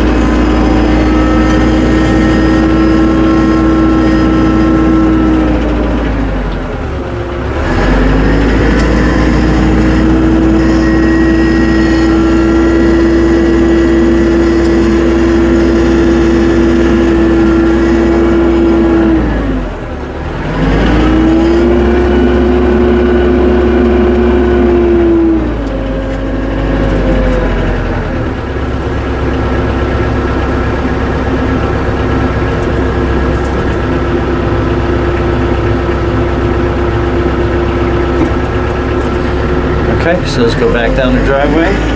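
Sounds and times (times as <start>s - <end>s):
tractor engine revving: 0.0s - 41.9s.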